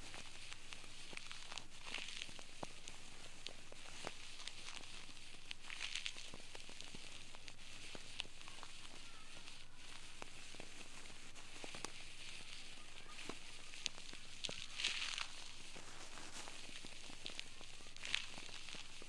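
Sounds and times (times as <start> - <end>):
small clicks and crackles: 0.0 - 19.0
steady hiss: 0.0 - 19.0.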